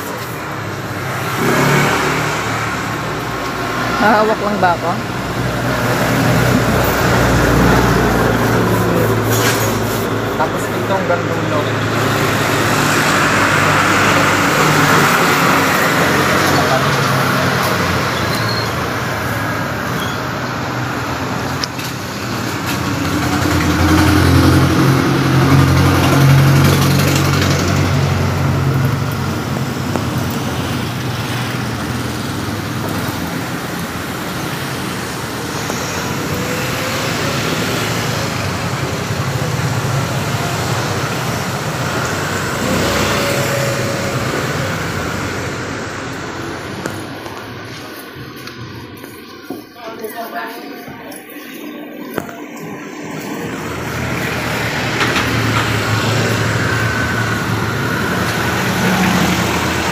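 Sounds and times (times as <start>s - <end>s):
heavy vehicle engine rumble: 0.0s - 49.6s, 51.2s - 59.9s
road traffic passing: 0.0s - 59.9s.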